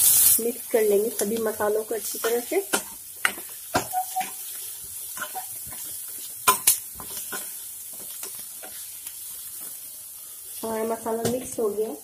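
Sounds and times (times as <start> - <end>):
onions sizzling in a pan: 0.0 - 12.0.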